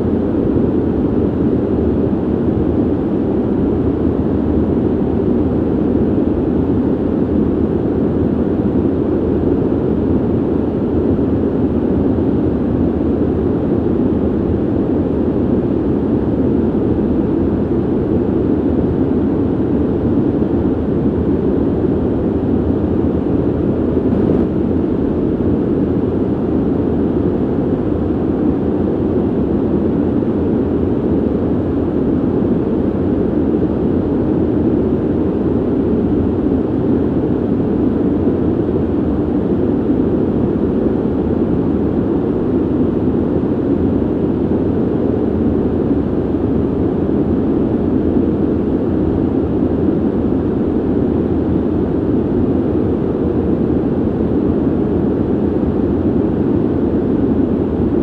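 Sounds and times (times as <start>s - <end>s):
ventilation rush: 0.0s - 58.0s.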